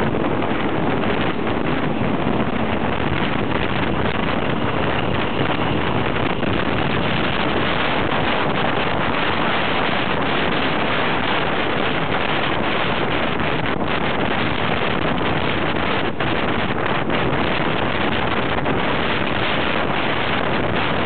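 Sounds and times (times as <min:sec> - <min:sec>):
train running noise: 0:00.0 - 0:21.0
wind buffeting microphone: 0:00.0 - 0:21.0.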